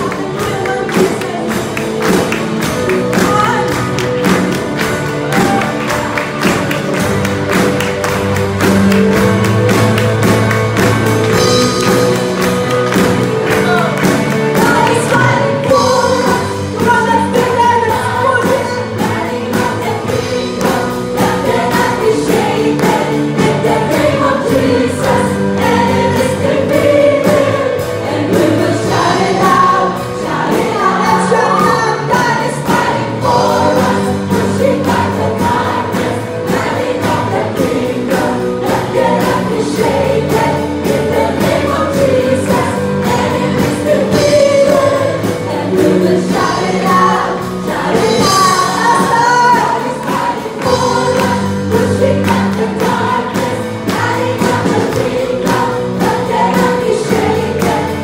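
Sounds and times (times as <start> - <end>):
group singing praise song: 0.0 - 58.0
instrumental backing with steady beat: 0.0 - 58.0.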